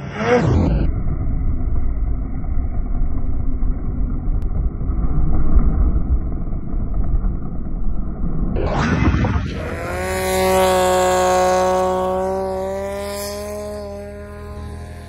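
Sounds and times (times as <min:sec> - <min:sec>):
snowmobile engine rumble: 0:00.0 - 0:15.0.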